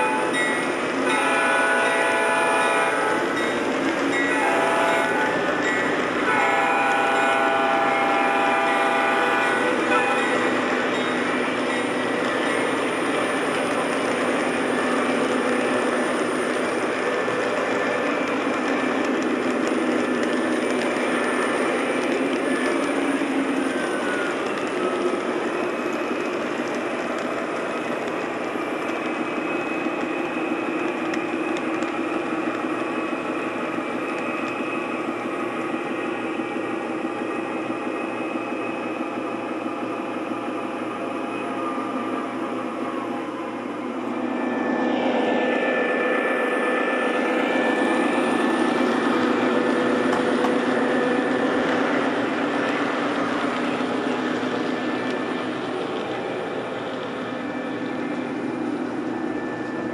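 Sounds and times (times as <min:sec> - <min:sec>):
model train rumbling on track: 0:00.0 - 0:59.9.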